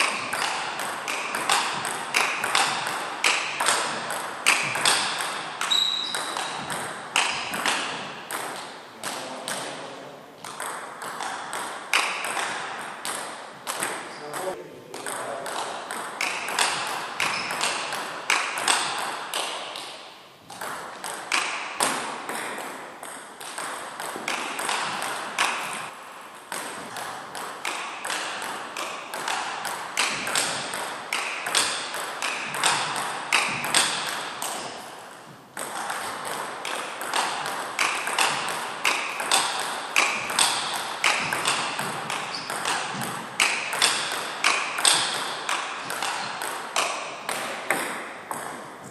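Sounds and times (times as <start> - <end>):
table tennis ball clicks: 0.0 - 9.7, 10.4 - 34.8, 35.6 - 48.5.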